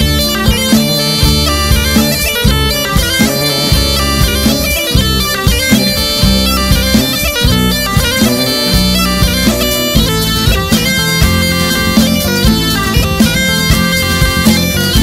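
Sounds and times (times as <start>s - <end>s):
bagpipe melody: 0.0s - 15.0s
steady low drum beat: 0.0s - 15.0s.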